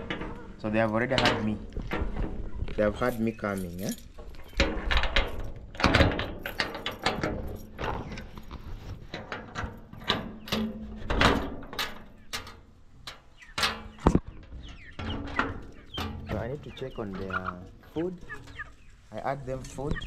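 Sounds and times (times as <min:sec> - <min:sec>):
chickens clucking: 0:00.0 - 0:06.8, 0:07.4 - 0:20.0
knocks and clatters: 0:00.0 - 0:18.6.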